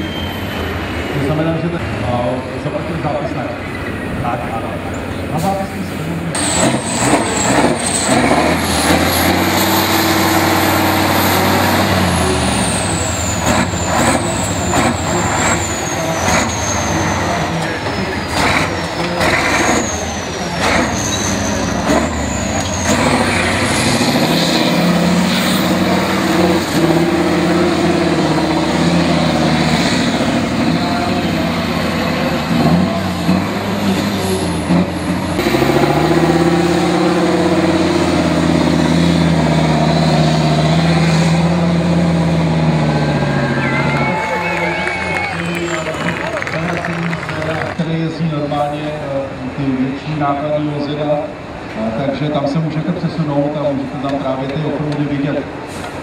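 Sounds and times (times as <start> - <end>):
engine labouring and revving: 0.0 - 56.0.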